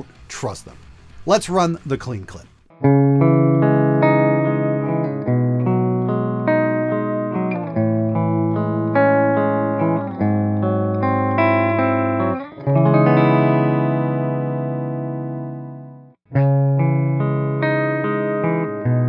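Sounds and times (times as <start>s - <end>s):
electric guitar arpeggiated chords: 2.7s - 19.0s
second electric guitar: 2.8s - 19.0s.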